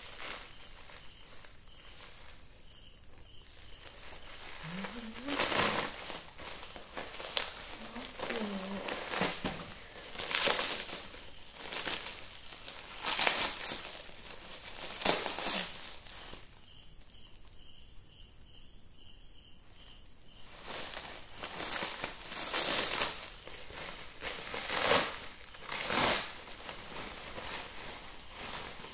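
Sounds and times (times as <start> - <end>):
plastic bag rustling and crinkling: 0.0 - 16.6, 20.4 - 28.9.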